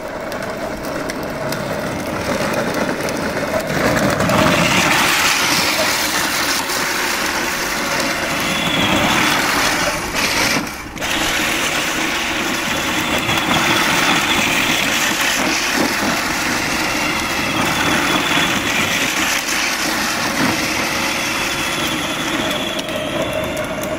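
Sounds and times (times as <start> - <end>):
plastic wheels rolling on concrete: 0.0 - 23.9
toy tractor electric motors running: 0.0 - 23.9.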